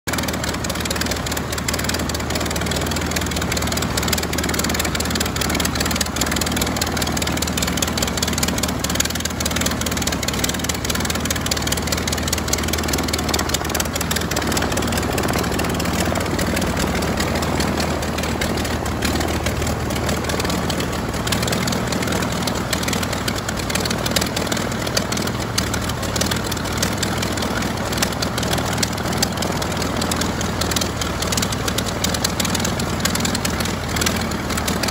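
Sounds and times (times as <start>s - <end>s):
aircraft engine running: 0.1s - 34.9s.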